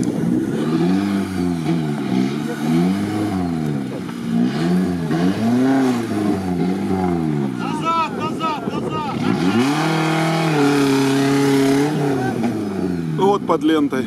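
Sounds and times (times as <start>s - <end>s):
engine revving under load: 0.0s - 7.6s, 9.1s - 13.5s.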